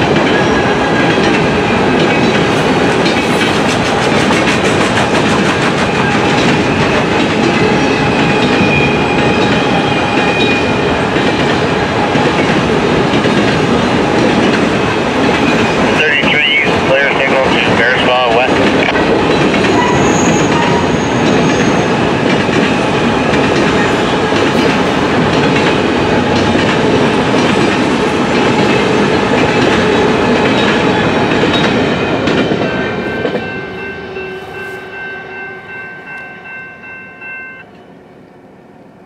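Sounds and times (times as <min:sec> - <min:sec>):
freight train rolling past: 0:00.0 - 0:39.0.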